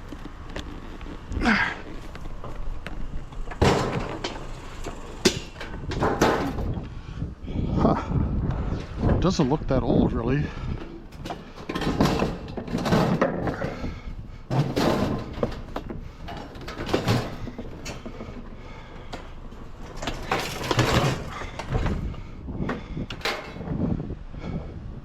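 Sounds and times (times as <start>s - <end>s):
scrap knocking and rattling: 0.0s - 6.9s, 10.5s - 23.8s.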